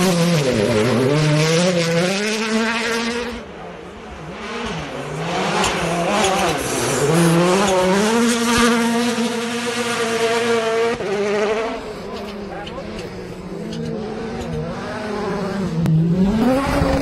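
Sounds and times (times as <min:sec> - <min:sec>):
rally car engine passing: 0:00.0 - 0:17.0.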